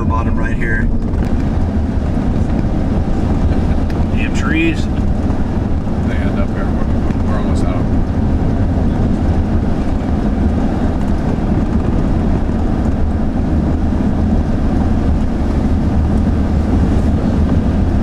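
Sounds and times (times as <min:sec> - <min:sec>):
road and engine noise inside van: 0:00.0 - 0:18.0.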